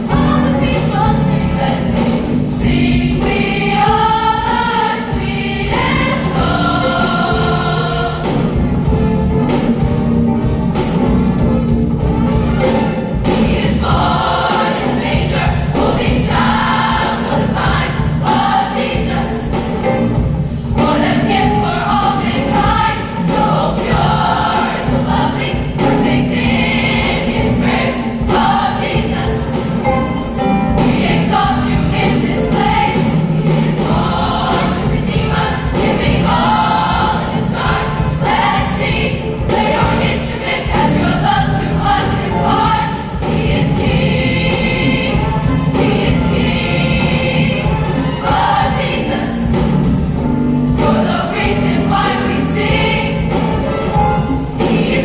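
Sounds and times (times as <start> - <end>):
choir singing with accompaniment: 0.0 - 55.0.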